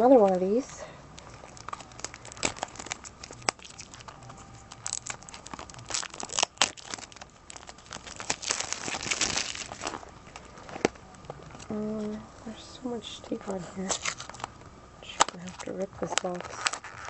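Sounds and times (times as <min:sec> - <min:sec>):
plastic wrap crinkling: 0:00.0 - 0:12.2, 0:13.4 - 0:17.0.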